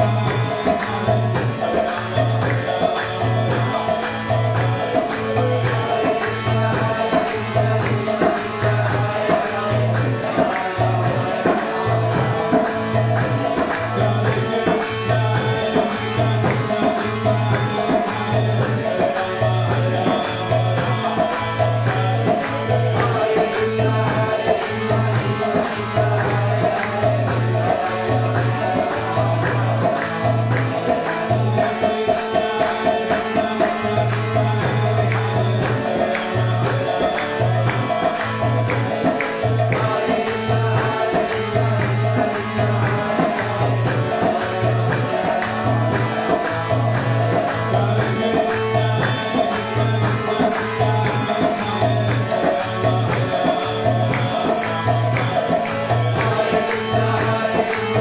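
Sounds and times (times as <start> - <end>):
harmonium chords: 0.0 - 58.0.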